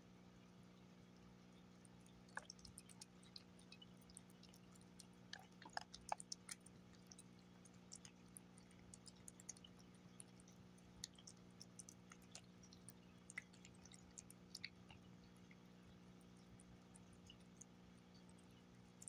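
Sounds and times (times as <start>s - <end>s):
cat licking and chewing food: 1.6s - 19.0s.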